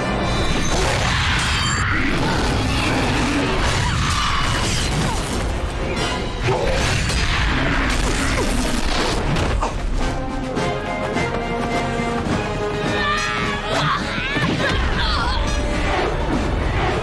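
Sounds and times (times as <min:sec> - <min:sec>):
dramatic action music: 0:00.0 - 0:17.0.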